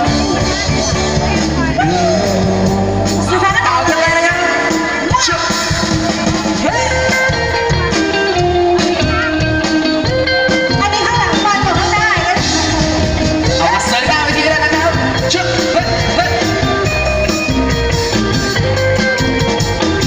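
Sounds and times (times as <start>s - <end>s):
fast drum beat: 0.0s - 20.0s
live band music through pa: 0.0s - 20.0s.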